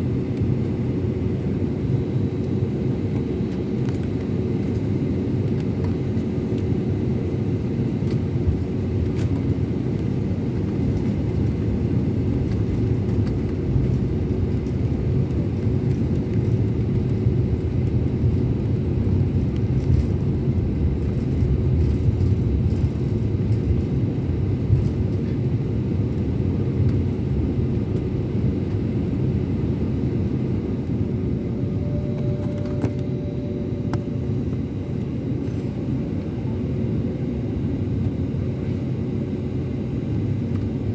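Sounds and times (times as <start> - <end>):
faint steady hum: 0.0 - 40.9
jet engines low rumble: 0.0 - 40.9.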